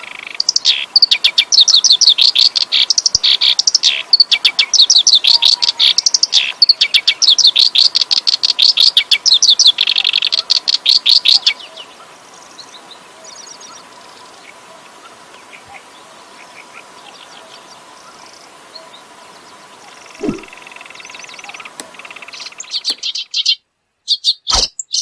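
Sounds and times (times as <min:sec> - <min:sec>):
reed warbler singing: 0:00.0 - 0:25.0.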